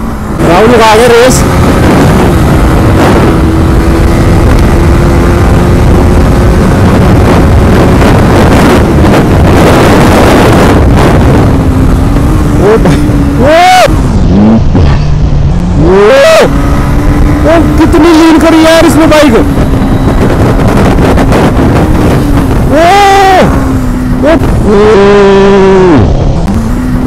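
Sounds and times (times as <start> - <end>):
motorcycle engine: 0.0 - 27.0
wind rush on microphone: 0.0 - 27.0.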